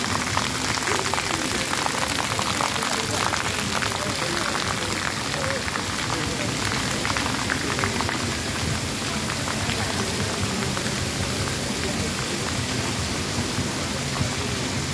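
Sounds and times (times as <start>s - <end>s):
fountain water splashing: 0.0s - 14.9s.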